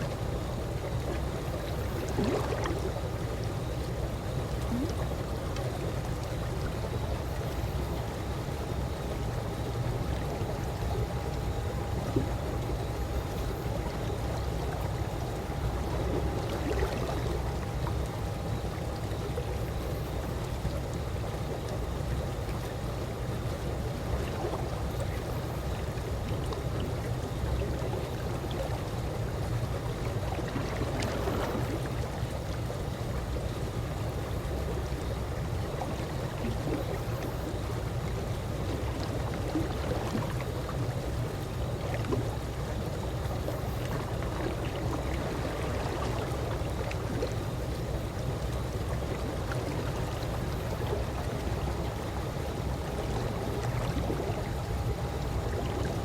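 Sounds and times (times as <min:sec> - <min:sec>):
pool water lapping: 0:00.0 - 0:56.0
water drips and splashes: 0:00.1 - 0:56.0.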